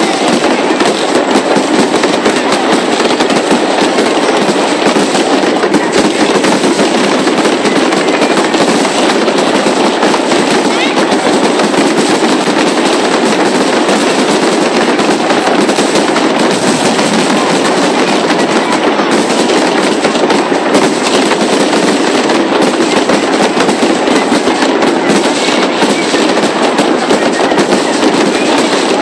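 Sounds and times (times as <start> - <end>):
fireworks bursts and crackles: 0.0 - 29.0.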